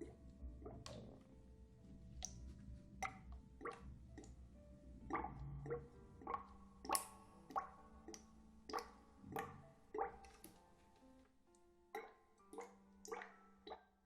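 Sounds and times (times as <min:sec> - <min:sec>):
soft wet clicks with echo: 0:00.0 - 0:01.3, 0:02.2 - 0:04.4, 0:05.1 - 0:10.6, 0:11.5 - 0:13.8.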